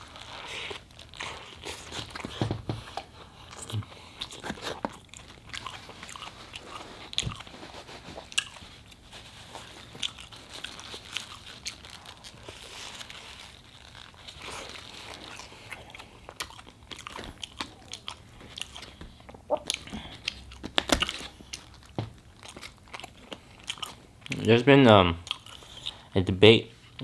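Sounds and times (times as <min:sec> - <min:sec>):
person biting and chewing food: 0:00.0 - 0:24.5, 0:25.2 - 0:26.1.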